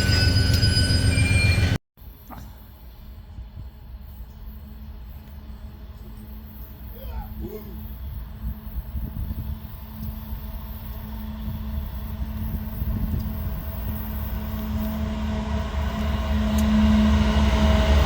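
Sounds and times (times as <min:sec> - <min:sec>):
locomotive engine drone: 0:00.0 - 0:18.0.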